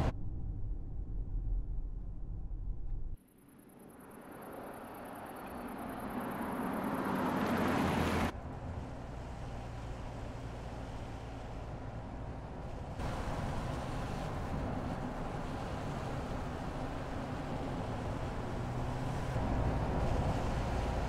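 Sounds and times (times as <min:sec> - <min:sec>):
low engine hum with road noise: 0:00.0 - 0:21.0.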